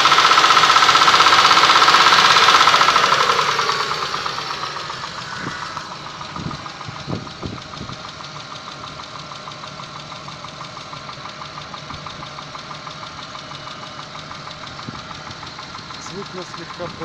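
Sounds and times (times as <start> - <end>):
engine idling with ticking knock: 0.0 - 17.0.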